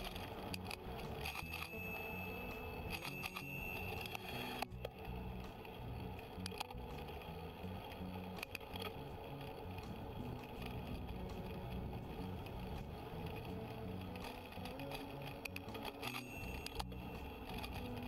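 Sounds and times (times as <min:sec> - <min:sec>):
bike tyres rolling: 0:00.0 - 0:18.0.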